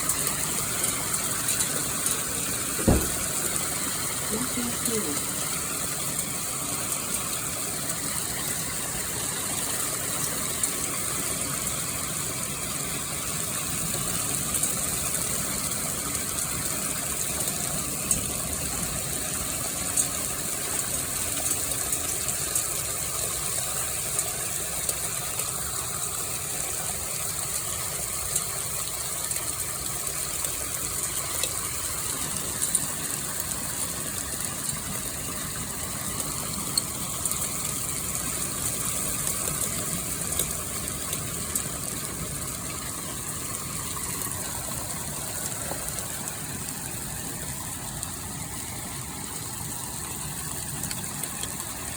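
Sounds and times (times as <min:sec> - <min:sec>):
hailstones clicking: 0:00.0 - 0:48.5
hail falling: 0:00.0 - 0:51.9.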